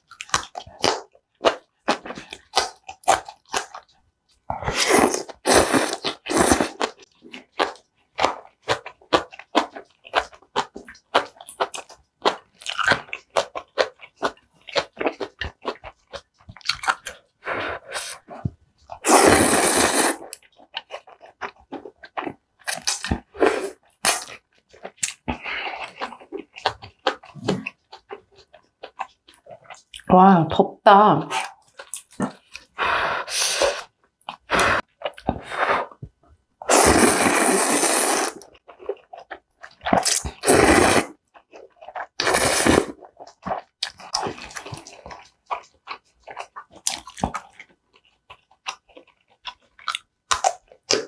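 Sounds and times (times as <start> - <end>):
crunchy wet chewing: 0.0 - 30.1, 31.3 - 51.0.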